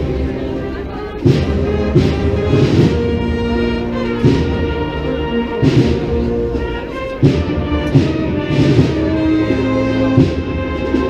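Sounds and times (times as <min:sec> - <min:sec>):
brass band playing a march: 0:00.0 - 0:11.0
drum hits: 0:01.2 - 0:11.0.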